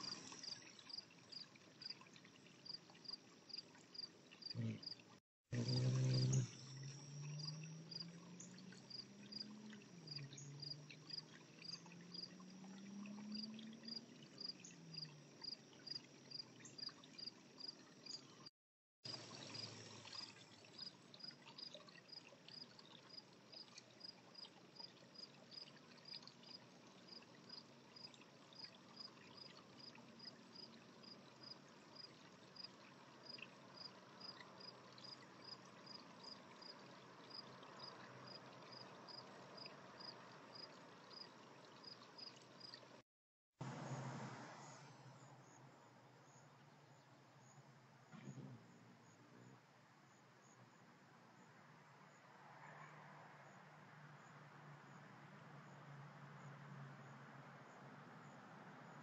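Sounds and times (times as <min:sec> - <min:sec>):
cricket chirping: 0:02.6 - 0:05.0, 0:05.6 - 0:18.4, 0:19.1 - 0:42.8, 0:45.0 - 0:59.0.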